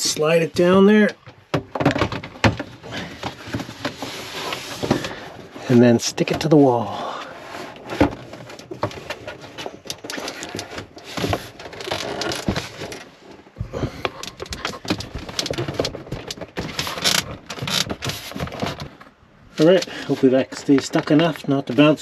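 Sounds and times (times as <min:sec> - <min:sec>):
plastic scraping and knocking: 0:00.6 - 0:06.6, 0:07.2 - 0:22.0.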